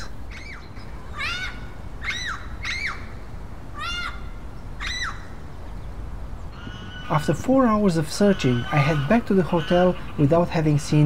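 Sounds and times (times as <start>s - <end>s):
parrots squawking: 0.0s - 5.4s, 6.5s - 11.0s.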